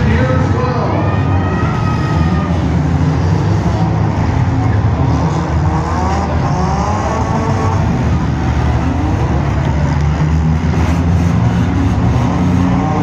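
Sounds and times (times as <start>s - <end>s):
car engines running hard: 0.0s - 13.0s
engine revving: 0.0s - 13.0s.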